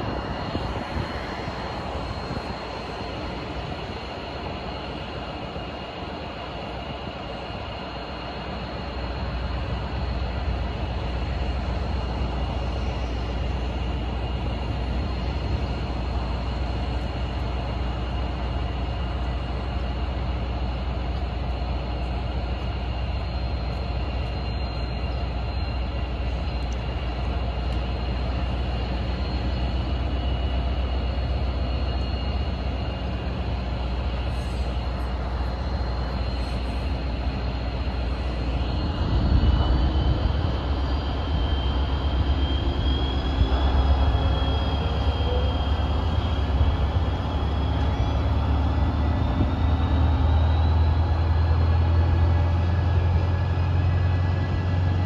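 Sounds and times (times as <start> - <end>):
locomotive engine rumbling: 0.0 - 55.0
thin high whine: 0.0 - 55.0.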